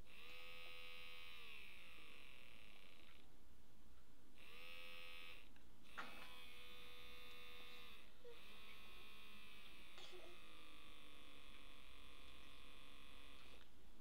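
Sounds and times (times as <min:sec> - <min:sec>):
small motor whining: 0:00.0 - 0:03.3, 0:04.4 - 0:13.8.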